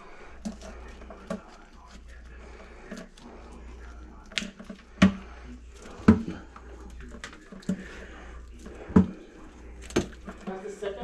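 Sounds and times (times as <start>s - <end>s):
drain snake cable clacking: 0.0s - 11.0s.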